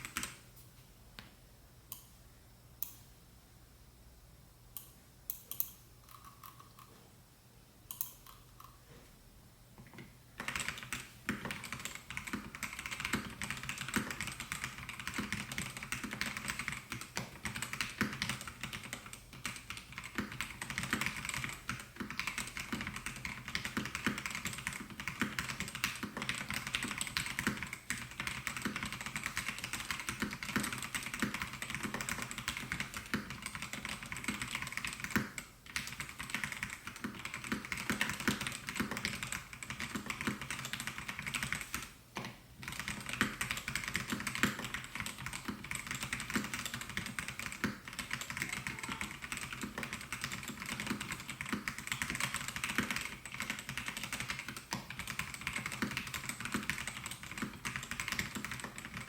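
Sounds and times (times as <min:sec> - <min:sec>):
mechanical keyboard typing: 0:10.4 - 0:41.8, 0:42.6 - 0:59.0.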